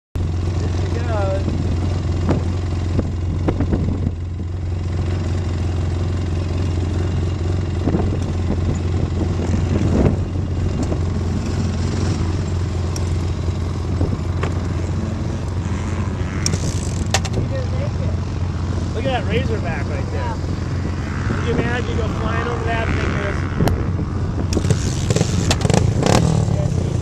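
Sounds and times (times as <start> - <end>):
atv engine droning: 0.2 - 27.0.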